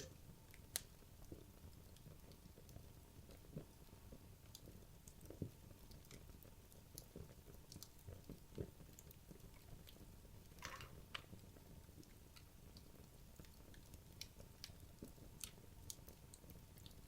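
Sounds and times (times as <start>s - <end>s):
wood crackling and popping: 0.0s - 17.0s.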